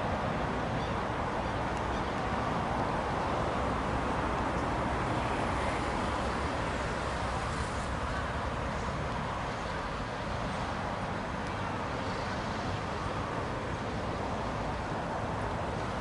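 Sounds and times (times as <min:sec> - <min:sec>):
outdoor background rumble and hiss: 0:00.0 - 0:16.0.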